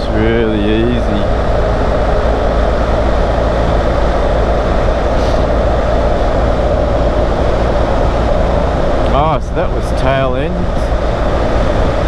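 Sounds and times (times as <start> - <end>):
motorcycle engine droning: 0.0 - 12.0
wind and road noise: 0.0 - 12.0.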